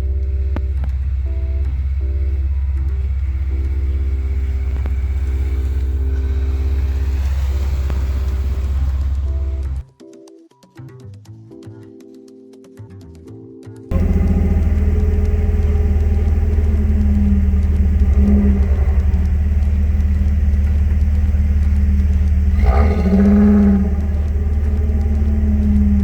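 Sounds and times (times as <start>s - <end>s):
engine running and revving: 0.0s - 9.8s, 13.9s - 26.0s.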